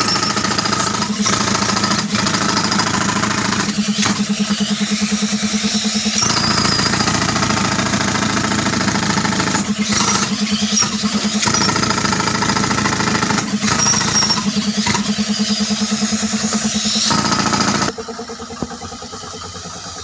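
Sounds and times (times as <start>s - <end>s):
pneumatic rock drill hammering: 0.0s - 19.2s
air compressor engine hum: 0.0s - 20.0s.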